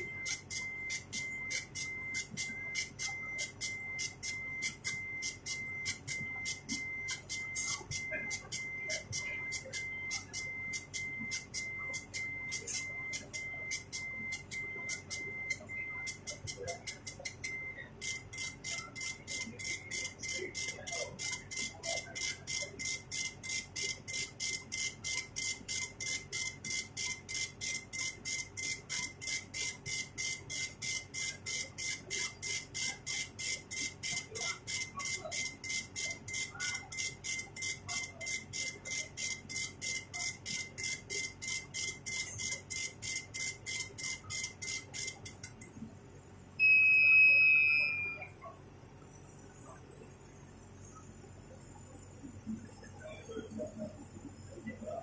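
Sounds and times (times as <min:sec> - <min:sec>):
cnc machine pulsing tone: 0:00.0 - 0:45.8, 0:46.6 - 0:48.6, 0:49.2 - 0:55.0.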